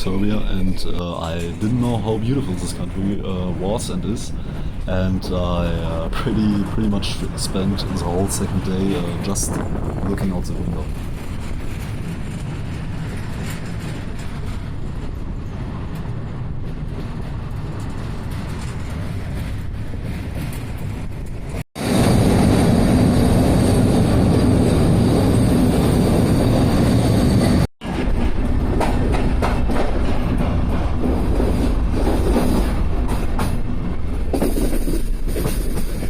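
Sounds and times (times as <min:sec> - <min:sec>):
train wheels rumbling: 0:00.0 - 0:36.0.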